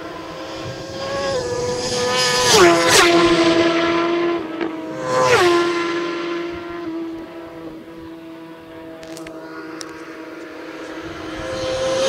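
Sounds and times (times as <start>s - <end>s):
racing motorcycles passing: 0.0s - 12.0s.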